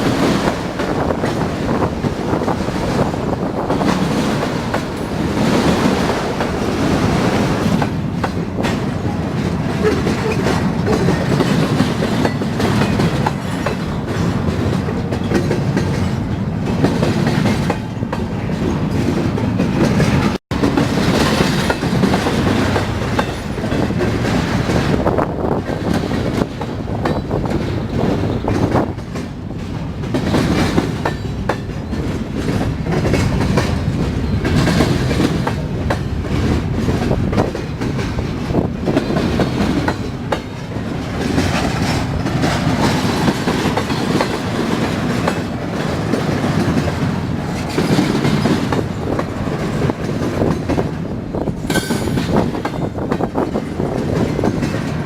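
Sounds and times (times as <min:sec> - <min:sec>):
railroad cars rumbling past: 0:00.0 - 0:55.0
wheels clacking over rail joints: 0:00.0 - 0:55.0.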